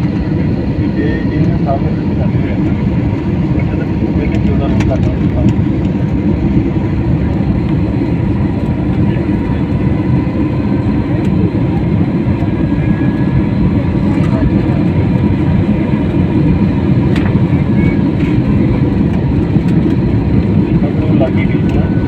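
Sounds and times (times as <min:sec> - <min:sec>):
jet cabin rumble: 0:00.0 - 0:22.0
jet engine high whine: 0:00.0 - 0:22.0.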